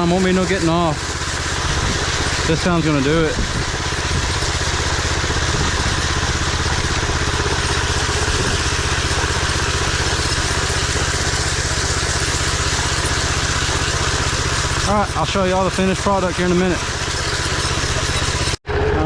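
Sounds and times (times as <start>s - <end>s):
power trowel engine running: 0.0s - 19.0s.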